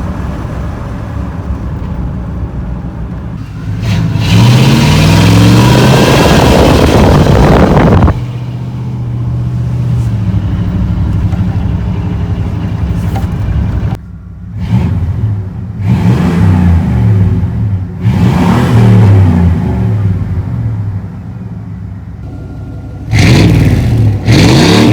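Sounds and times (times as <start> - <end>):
truck engine and exhaust: 0.0 - 24.9.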